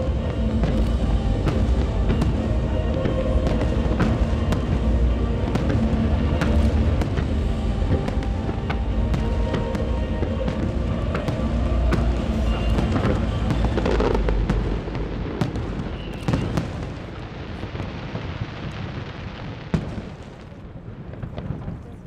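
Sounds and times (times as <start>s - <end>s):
fireworks booms and crackling: 0.0s - 22.0s
sharp fireworks bangs: 0.0s - 22.0s.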